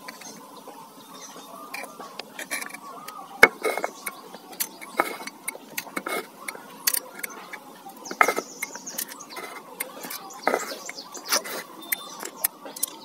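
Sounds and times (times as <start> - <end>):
screwdriver scraping metal lid: 0.0 - 0.4, 1.7 - 13.0.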